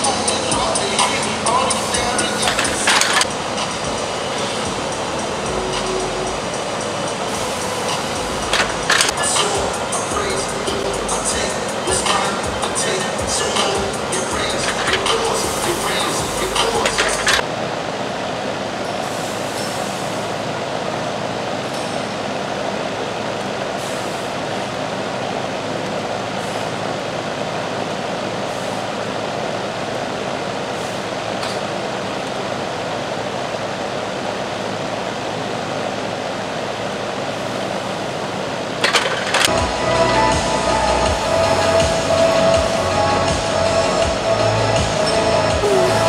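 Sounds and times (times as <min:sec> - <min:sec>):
steady rushing noise: 0:00.0 - 0:46.0.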